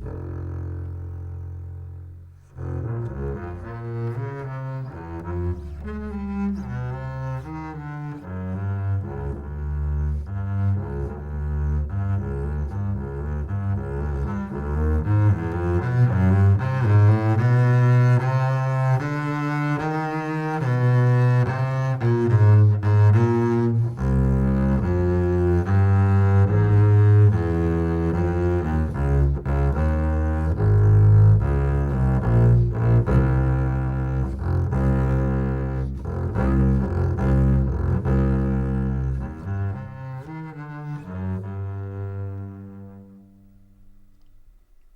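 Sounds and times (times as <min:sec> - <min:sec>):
bowed double bass: 0:00.0 - 0:44.9.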